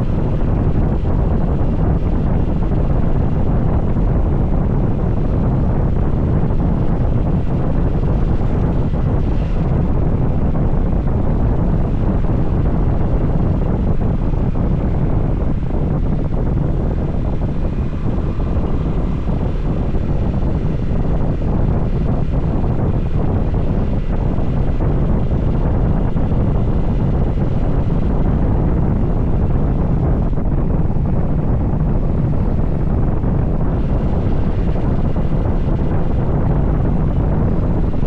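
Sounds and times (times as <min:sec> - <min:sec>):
motorcycle running: 0:00.0 - 0:38.0
wind buffeting microphone: 0:00.0 - 0:38.0.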